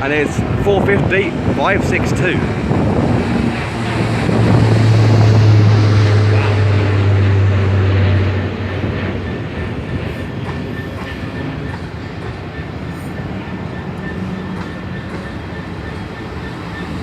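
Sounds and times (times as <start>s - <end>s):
propeller airplane drone: 0.0s - 17.0s.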